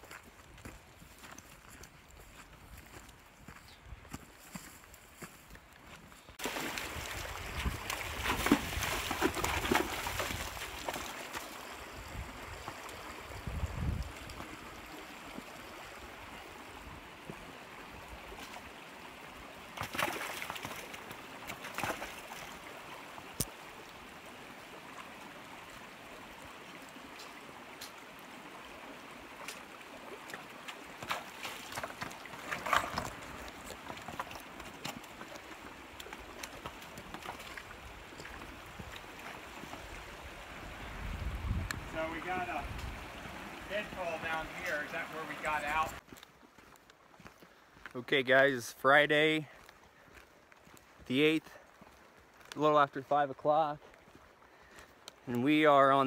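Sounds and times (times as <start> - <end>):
creek running over rocks: 0.0 - 56.0
mule hooves splashing on stones: 0.0 - 56.0.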